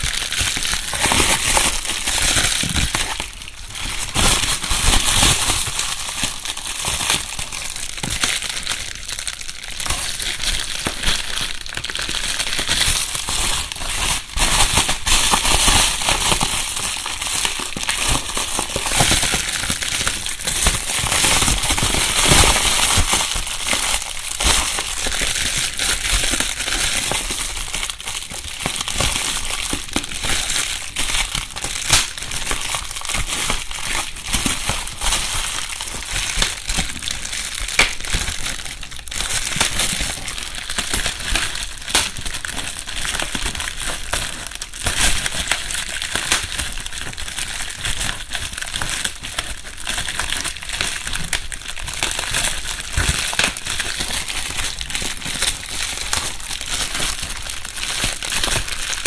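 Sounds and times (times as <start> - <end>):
bubble wrap crinkling: 0.0 - 59.0.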